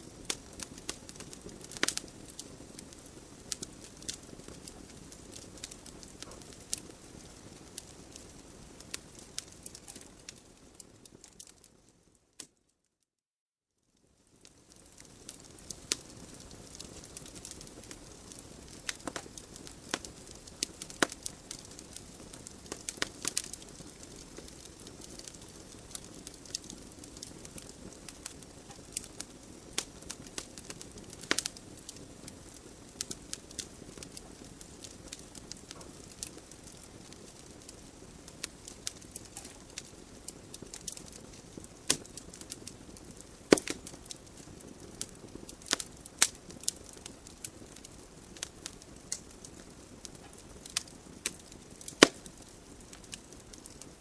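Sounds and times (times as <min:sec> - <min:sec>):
fire crackles and pops: 0:00.0 - 0:12.7, 0:13.9 - 0:54.0.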